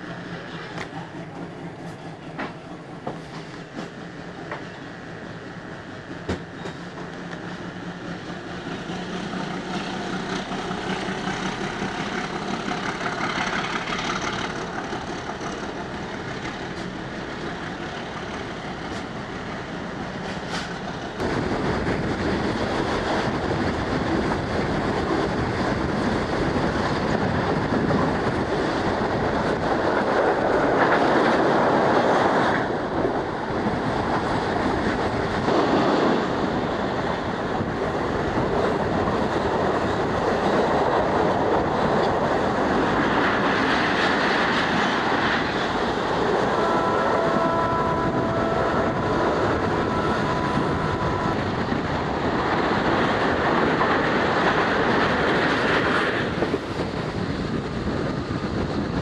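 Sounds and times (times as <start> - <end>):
train wheels clattering over track: 0.0 - 59.0.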